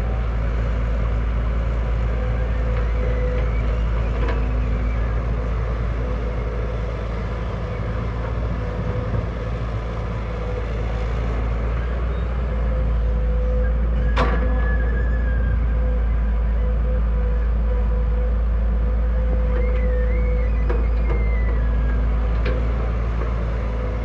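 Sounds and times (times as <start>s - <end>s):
diesel machine engine rumble: 0.0s - 24.0s.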